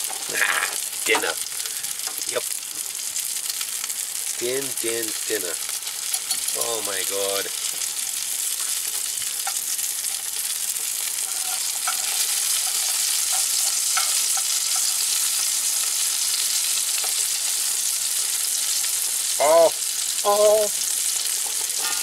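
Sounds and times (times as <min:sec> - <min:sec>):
fish sizzling in a skillet: 0:00.0 - 0:22.0.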